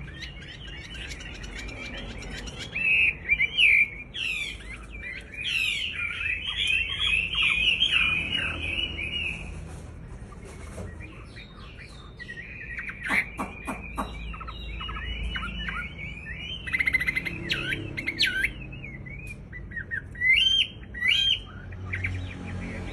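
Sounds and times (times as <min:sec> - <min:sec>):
bird singing trilling song: 0:00.0 - 0:22.9.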